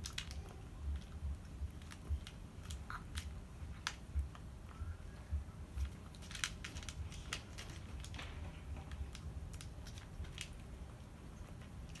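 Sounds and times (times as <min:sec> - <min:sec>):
cats crunching cat food: 0:00.0 - 0:04.8, 0:05.6 - 0:12.0.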